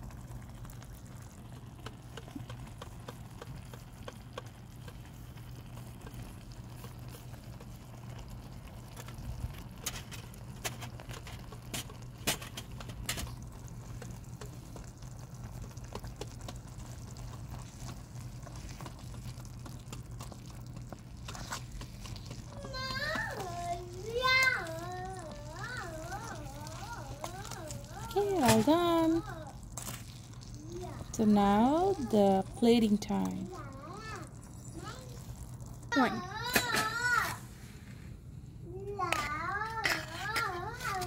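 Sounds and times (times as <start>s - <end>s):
curry bubbling in a pot: 0.0s - 41.0s.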